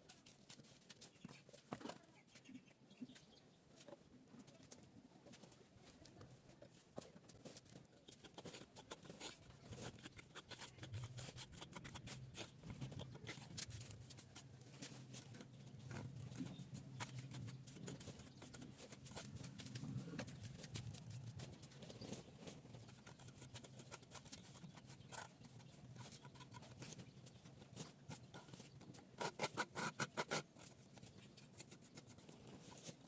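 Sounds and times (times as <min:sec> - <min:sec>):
faint clicking and scraping: 0:00.0 - 0:33.0.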